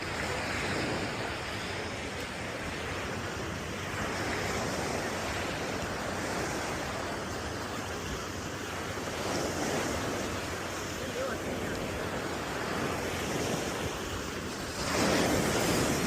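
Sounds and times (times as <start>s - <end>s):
ocean surf on beach: 0.0s - 16.0s
wind on microphone: 0.0s - 16.0s.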